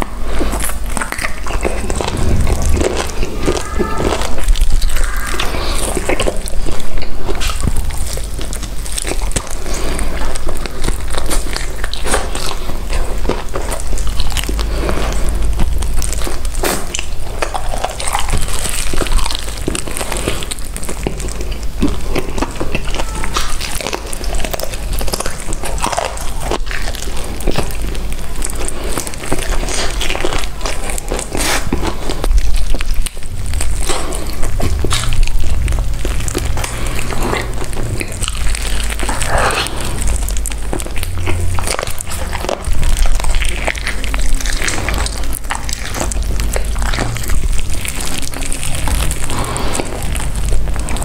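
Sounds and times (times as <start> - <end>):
chewing and crackling: 0.0 - 51.0
crunchy bites of fried chicken: 0.0 - 51.0.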